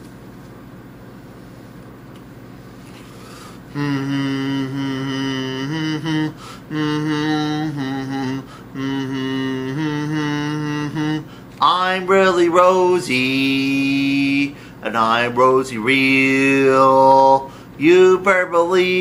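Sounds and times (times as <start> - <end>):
faint room hum: 0.0 - 19.0
man humming held notes: 3.7 - 19.0.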